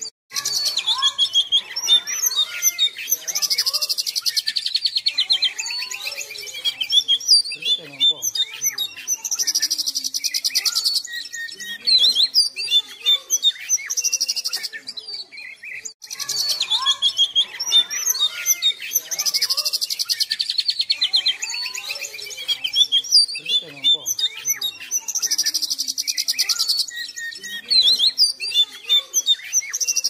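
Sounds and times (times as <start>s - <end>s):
fast rattling bird trills: 0.0s - 14.9s, 15.7s - 30.0s
bird singing whistled notes: 0.0s - 30.0s.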